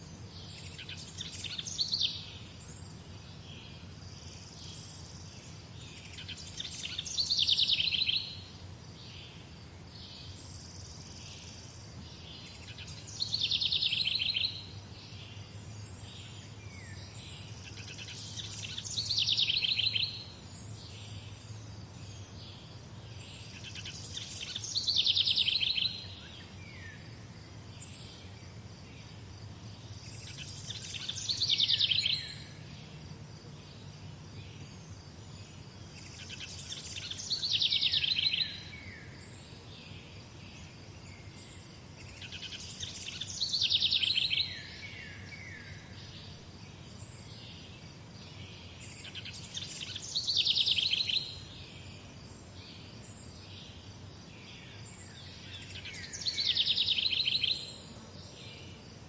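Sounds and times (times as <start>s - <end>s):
faint bird chirps: 0.0s - 59.0s
songbird singing: 0.0s - 59.0s.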